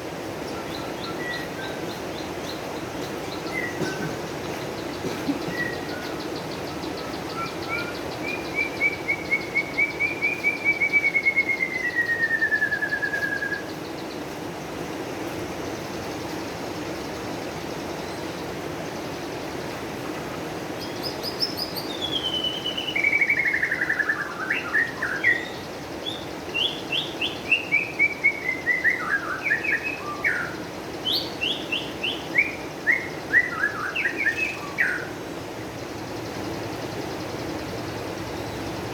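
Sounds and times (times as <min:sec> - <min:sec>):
songbird singing: 0:00.0 - 0:38.9
steady low background noise: 0:00.0 - 0:38.9.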